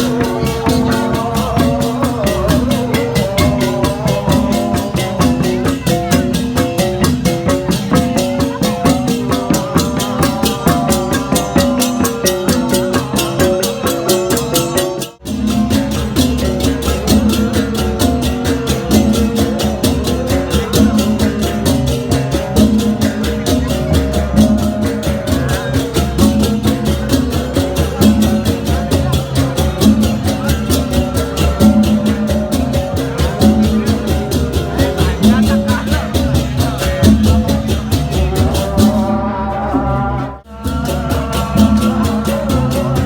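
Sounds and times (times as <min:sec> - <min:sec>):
gamelan music: 0:00.0 - 0:43.0.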